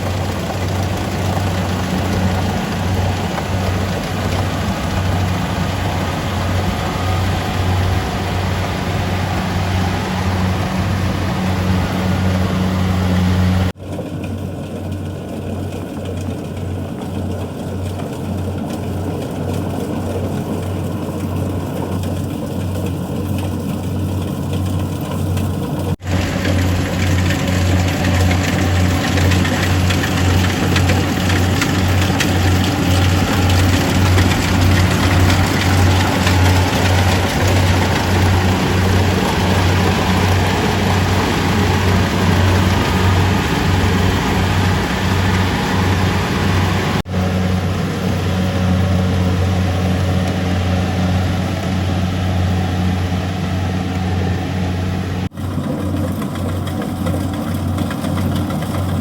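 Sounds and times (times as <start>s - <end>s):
combine harvester engine droning: 0.0s - 59.0s
harvesting machinery rattling: 0.0s - 59.0s.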